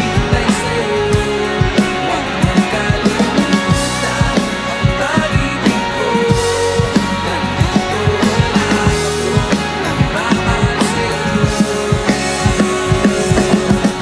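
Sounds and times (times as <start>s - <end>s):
electric bass: 0.0s - 14.0s
electric guitar: 0.0s - 14.0s
steady drumbeat: 0.0s - 14.0s.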